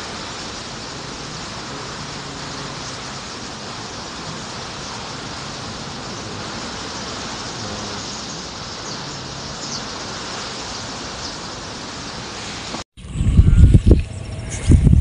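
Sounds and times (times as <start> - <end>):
heavy rain: 0.0 - 12.9
wind gusting through trees: 0.0 - 15.0.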